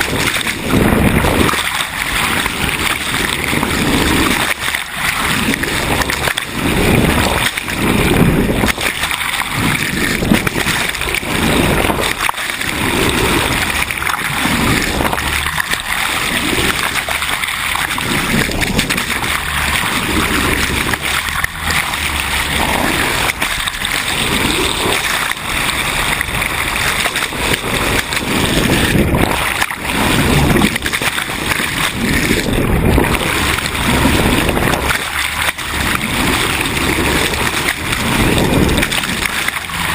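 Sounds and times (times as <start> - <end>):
sea water splashing along hull: 0.0 - 39.9.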